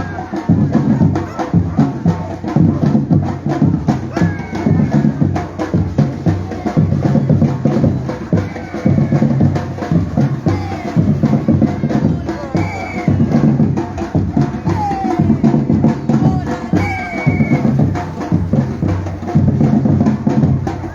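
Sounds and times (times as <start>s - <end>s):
people calling out: 0.0s - 19.3s
drum group playing: 0.0s - 20.9s.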